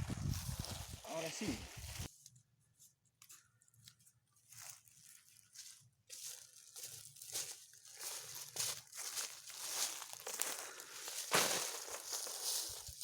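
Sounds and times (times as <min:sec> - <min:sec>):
dry leaves crunching and rustling: 0:00.0 - 0:02.1, 0:04.4 - 0:13.0.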